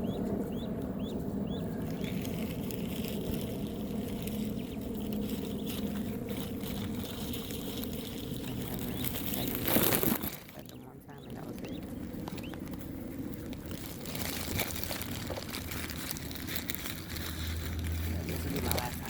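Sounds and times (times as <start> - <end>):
ducklings peeping: 0.0 - 19.0
low outdoor rumble: 0.0 - 19.0
faint pattering: 0.2 - 19.0.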